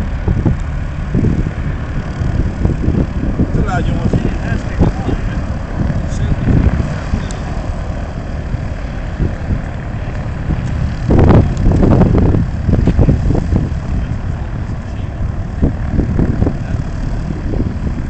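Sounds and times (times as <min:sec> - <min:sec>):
jet engines rumbling loudly: 0:00.0 - 0:18.0.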